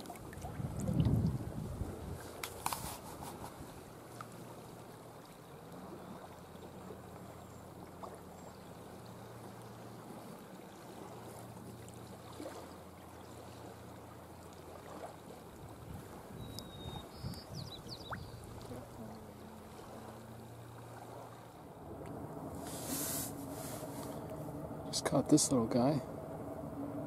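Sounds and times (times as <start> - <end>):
water lapping on stony shore: 0.0 - 25.9.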